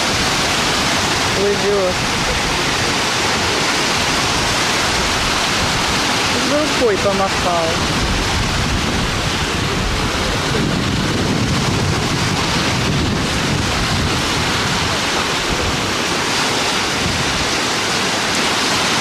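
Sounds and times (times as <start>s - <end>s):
small waves breaking on shore: 0.0s - 19.0s
wind buffeting microphone: 0.0s - 19.0s.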